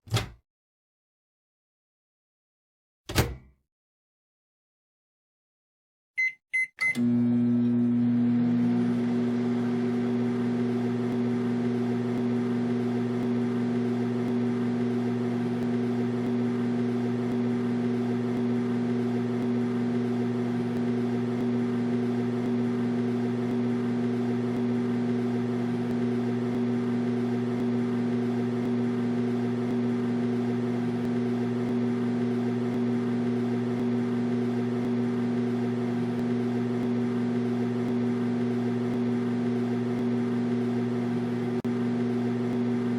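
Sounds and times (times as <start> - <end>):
microwave oven humming: 6.8 - 42.9.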